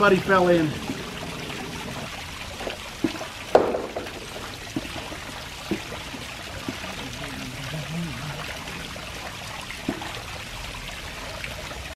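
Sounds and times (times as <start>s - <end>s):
water splashes: 0.0s - 11.9s
waterfall pouring into pool: 0.0s - 11.9s.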